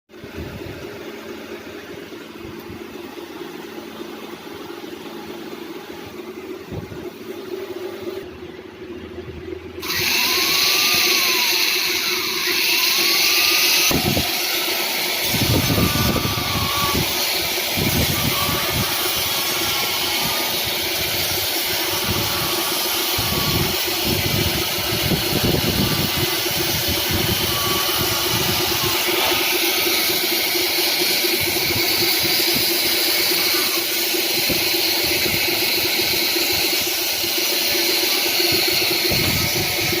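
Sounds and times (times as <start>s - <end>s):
woodworking power tool running: 0.2s - 40.0s.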